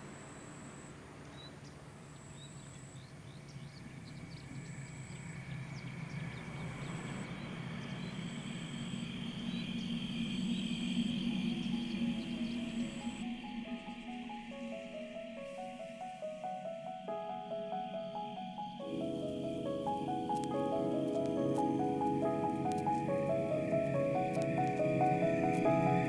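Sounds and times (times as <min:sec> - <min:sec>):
low drone: 0:03.8 - 0:26.0.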